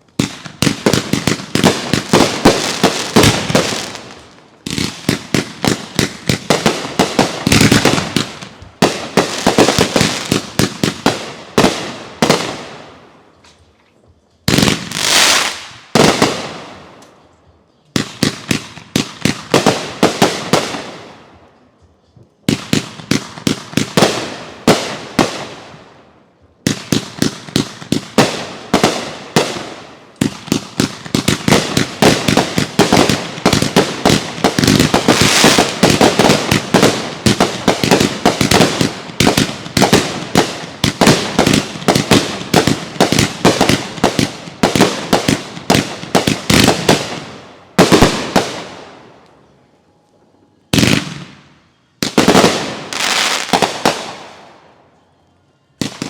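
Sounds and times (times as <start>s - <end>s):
fireworks bangs and crackles: 0.0s - 13.1s, 14.1s - 17.2s, 17.9s - 21.4s, 22.3s - 49.2s, 50.7s - 54.8s, 55.8s - 56.0s.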